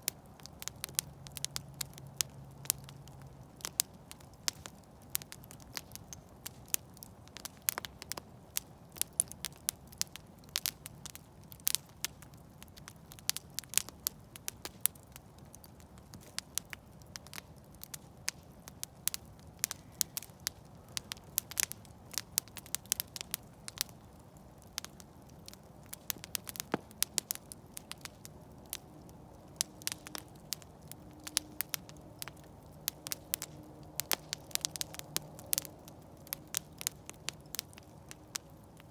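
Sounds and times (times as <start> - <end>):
campfire crackling and popping: 0.0 - 38.9
low background noise: 0.0 - 38.9.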